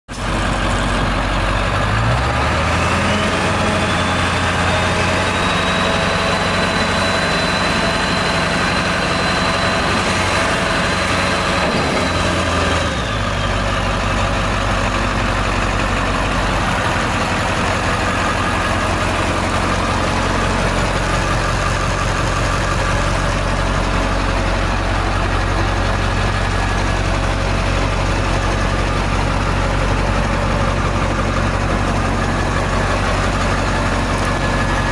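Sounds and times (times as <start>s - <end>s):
diesel truck engine: 0.1s - 34.9s
hydraulic hoist whine: 0.1s - 34.9s.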